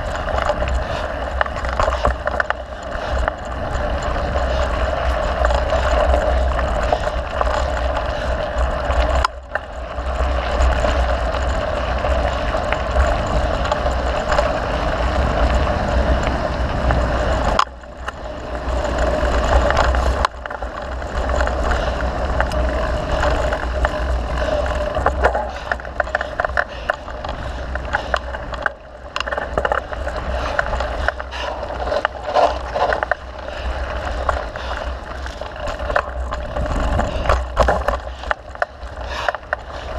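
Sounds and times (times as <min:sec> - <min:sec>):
bike rattles and knocks: 0:00.0 - 0:39.9
tyres rumbling on dirt: 0:00.0 - 0:39.9
wind on microphone: 0:00.0 - 0:39.9.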